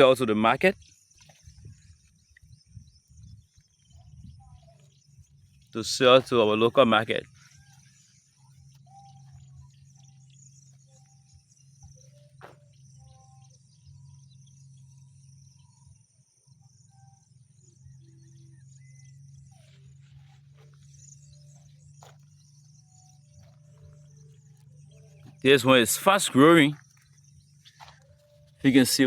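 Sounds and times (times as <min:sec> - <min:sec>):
insects chirping: 0:00.0 - 0:29.0
low steady hum: 0:00.0 - 0:29.0.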